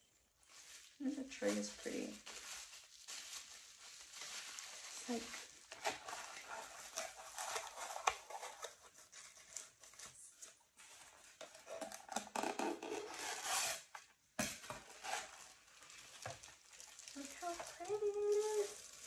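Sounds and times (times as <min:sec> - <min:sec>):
bubble wrap crinkling: 0:00.4 - 0:19.0.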